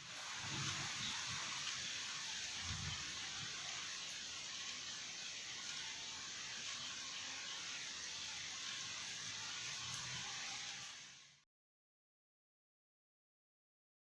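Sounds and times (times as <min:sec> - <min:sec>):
heavy rain falling: 0:00.0 - 0:11.4.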